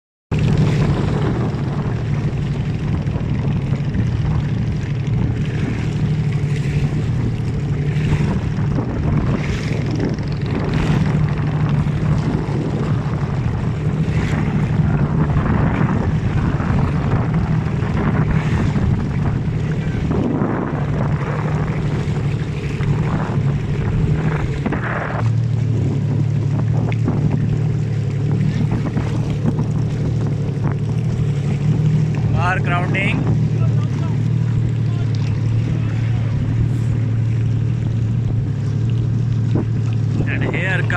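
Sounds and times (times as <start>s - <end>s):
boat engine droning: 0.3s - 40.9s
water splashing: 0.3s - 40.9s
wind: 0.3s - 40.9s.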